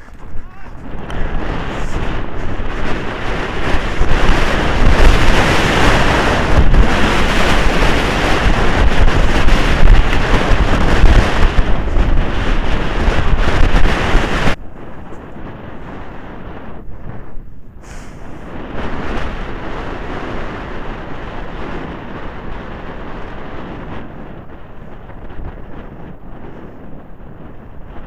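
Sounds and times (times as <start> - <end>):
heavy low rumble: 0.0 - 28.0
wind buffeting microphone: 0.0 - 28.0.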